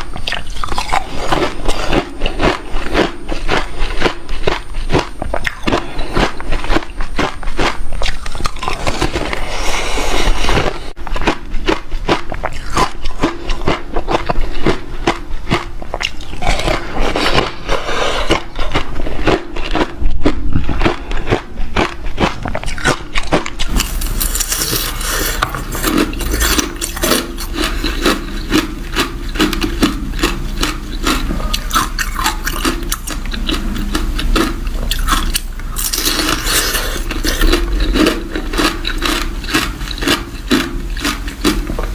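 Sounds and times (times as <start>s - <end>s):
chewing hard ice crunches: 0.0s - 41.9s.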